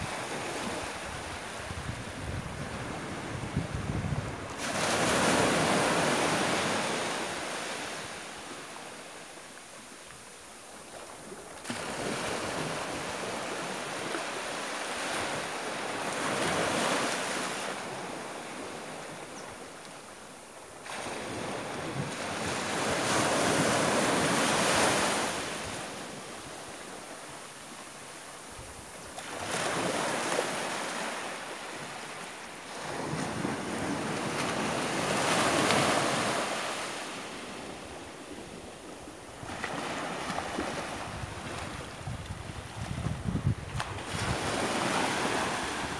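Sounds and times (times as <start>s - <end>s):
waves breaking and washing in: 0.0s - 45.9s.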